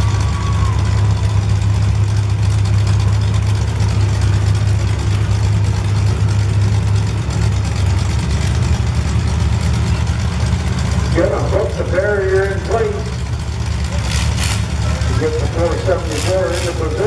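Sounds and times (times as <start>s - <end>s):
car engines idling and revving: 0.0s - 17.0s.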